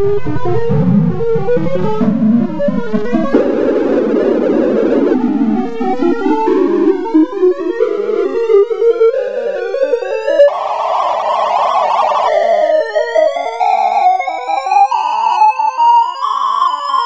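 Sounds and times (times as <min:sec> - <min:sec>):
rapid synthesized beeps: 0:01.2 - 0:17.0.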